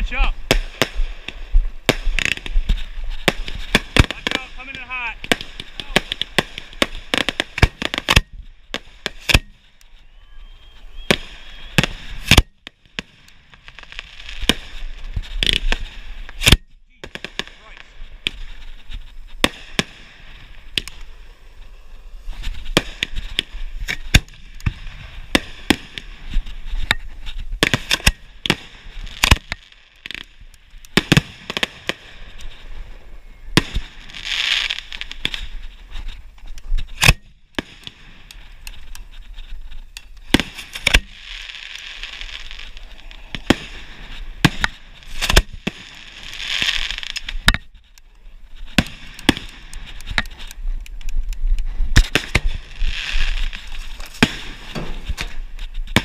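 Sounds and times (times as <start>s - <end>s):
fireworks bangs: 0.0s - 56.0s
fireworks hiss: 0.0s - 56.0s.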